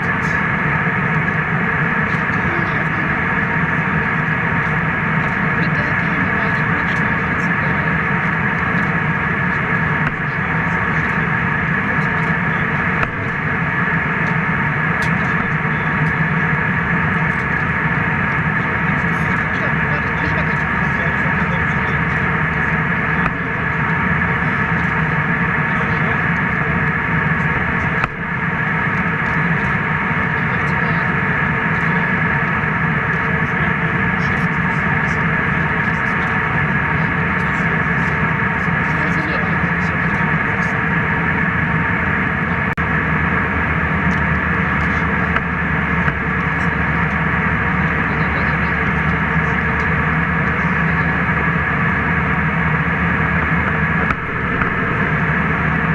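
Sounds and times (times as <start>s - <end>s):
jet cabin engine rush: 0.0s - 55.9s
low hum: 0.0s - 55.9s.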